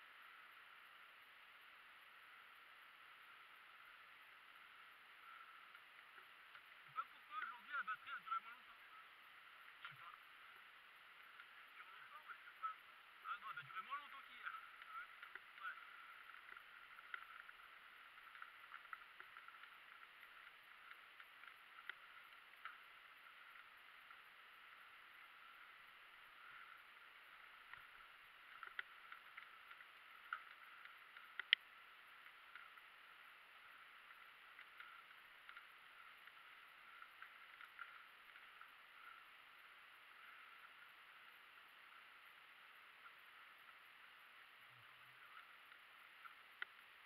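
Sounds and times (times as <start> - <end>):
faint muffled hiss: 0.0 - 47.0.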